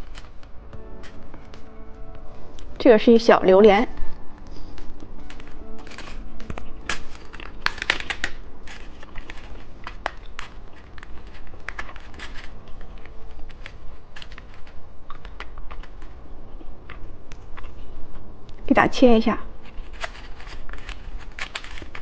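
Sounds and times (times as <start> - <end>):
plastic packaging crinkling: 0.0 - 1.7, 3.4 - 18.0, 19.5 - 22.0.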